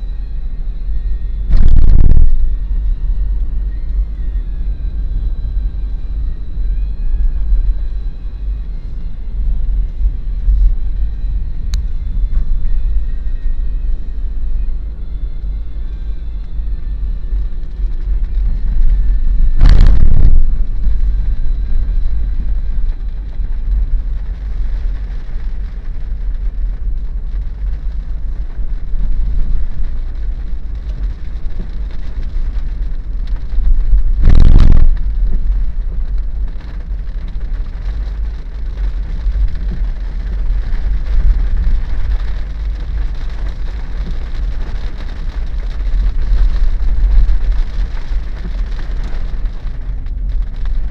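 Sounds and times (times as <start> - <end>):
car road and engine rumble: 0.0 - 50.9
rain hiss: 1.5 - 50.9.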